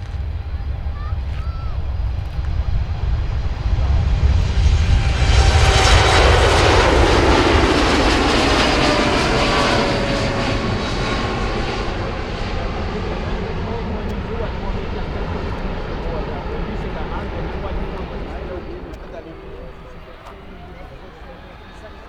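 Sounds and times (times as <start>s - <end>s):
jet airliner engine noise: 0.0s - 22.0s
jet engine whine: 0.0s - 22.0s.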